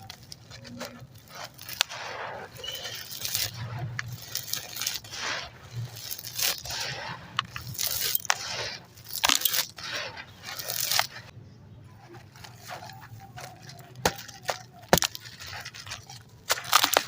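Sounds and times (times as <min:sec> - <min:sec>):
concrete crunching and cracking: 0:00.0 - 0:11.3, 0:11.9 - 0:17.0.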